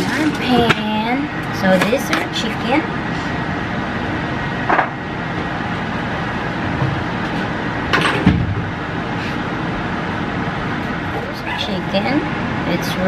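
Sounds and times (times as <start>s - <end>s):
fan-like background noise: 0.0s - 13.0s.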